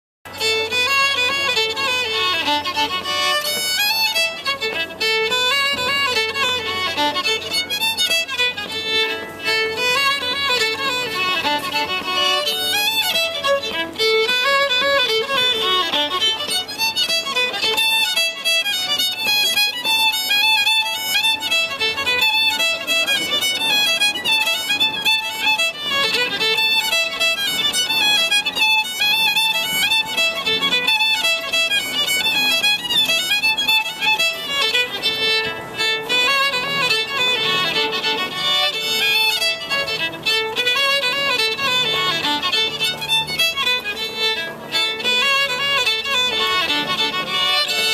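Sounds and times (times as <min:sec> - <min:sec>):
solo fiddle tune: 0:00.3 - 0:47.9.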